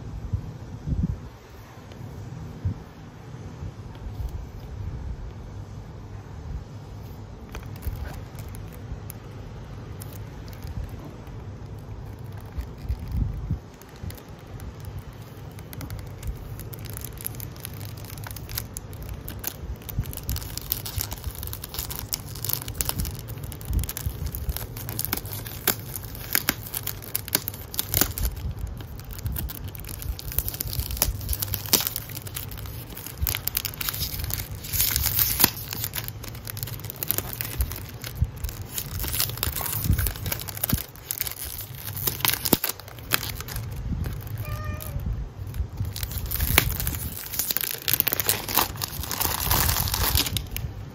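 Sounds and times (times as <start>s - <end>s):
cellophane crinkling and tearing: 7.1s - 50.9s.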